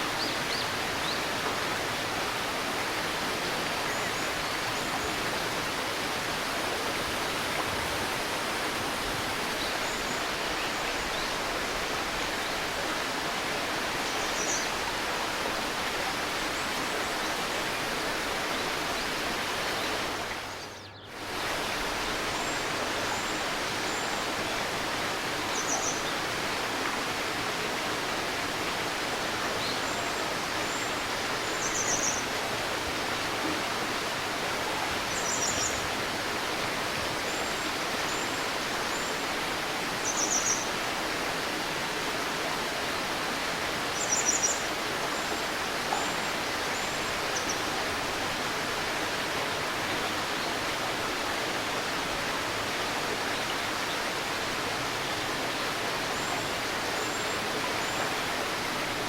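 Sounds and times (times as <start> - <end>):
river babbling: 0.0 - 59.0.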